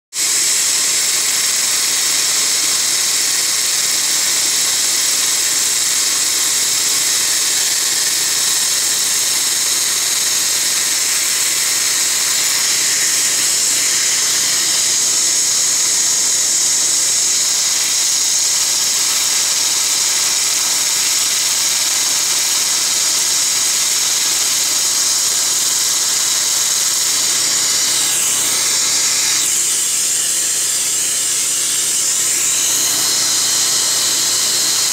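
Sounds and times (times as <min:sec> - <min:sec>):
dental laser spray hissing: 0:00.2 - 0:34.9.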